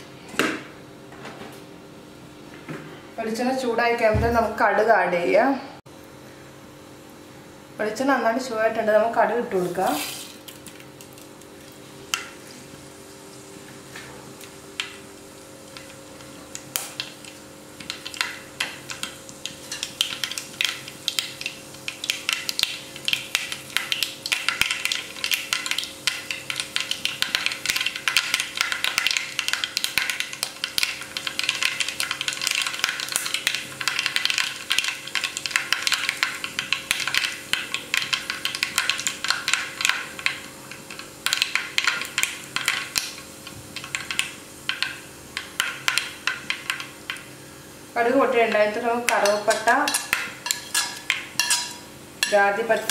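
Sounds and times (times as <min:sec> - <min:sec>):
seeds sizzling and popping in oil: 0:09.6 - 0:52.9.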